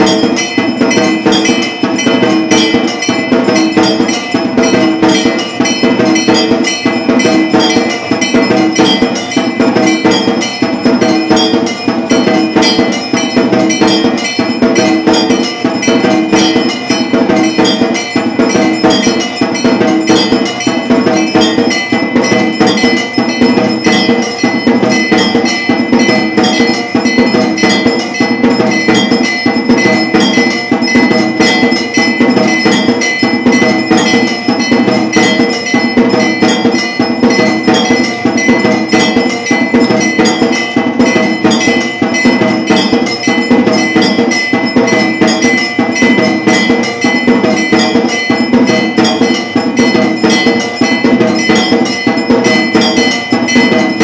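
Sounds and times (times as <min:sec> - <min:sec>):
bells clanging rhythmically: 0:00.0 - 0:54.0.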